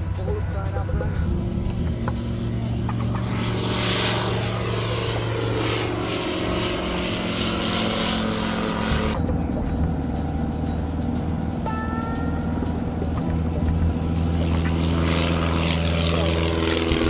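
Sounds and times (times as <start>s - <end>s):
background music: 0.0s - 17.0s
plane engine and propeller: 0.0s - 17.0s.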